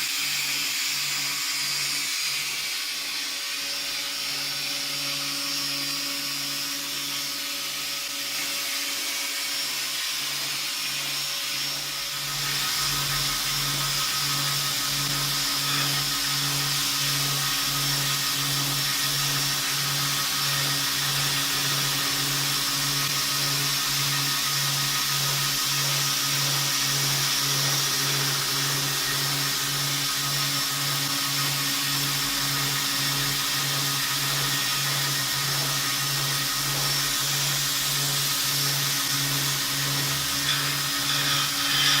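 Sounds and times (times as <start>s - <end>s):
belt grinder running: 0.0s - 42.0s.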